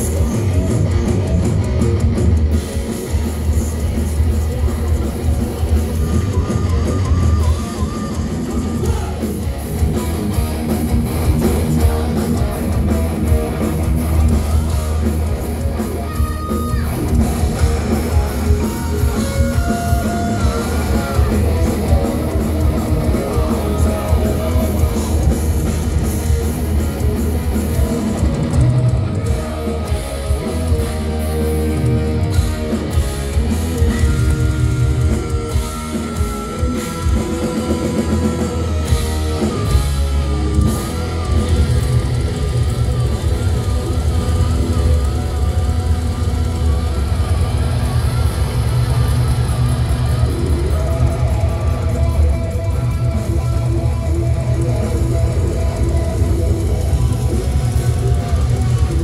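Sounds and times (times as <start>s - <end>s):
bass guitar: 0.0s - 59.0s
distorted electric guitars: 0.0s - 59.0s
held lead guitar notes: 0.0s - 59.0s
pounding drum kit: 0.0s - 59.0s.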